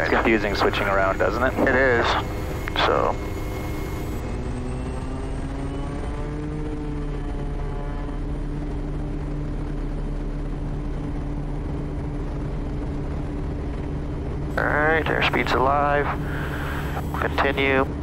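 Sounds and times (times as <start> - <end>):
turboprop engine droning: 0.0 - 18.0.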